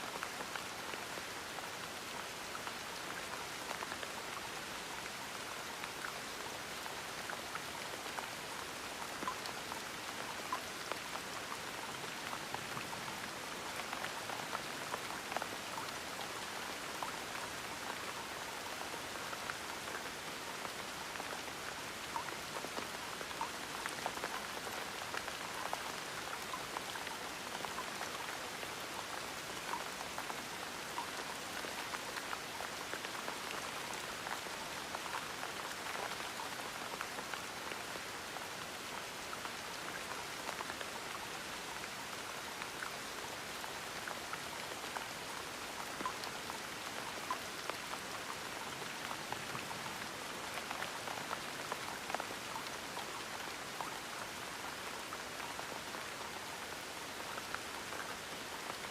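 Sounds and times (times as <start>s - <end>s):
gentle rain pattering: 0.0s - 58.9s.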